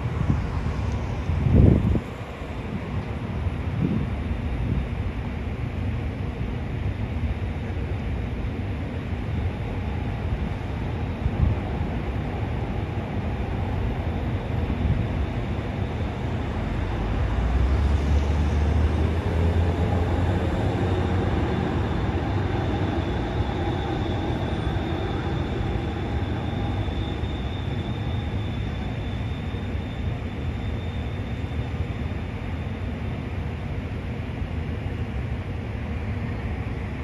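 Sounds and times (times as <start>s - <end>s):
faint high whine: 0.0s - 37.0s
steady traffic noise: 0.0s - 37.0s.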